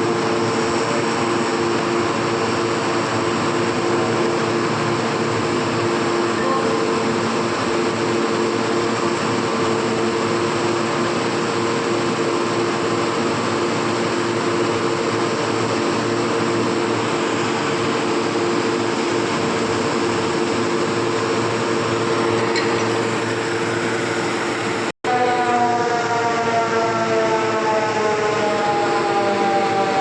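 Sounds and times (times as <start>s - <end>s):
heavy machinery drone: 0.0s - 30.0s.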